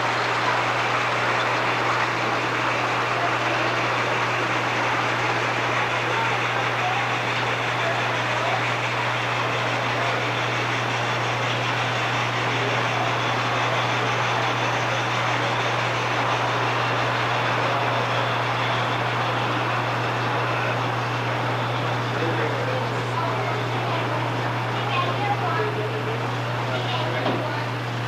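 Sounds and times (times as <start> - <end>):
model train rolling on track: 0.0 - 28.0.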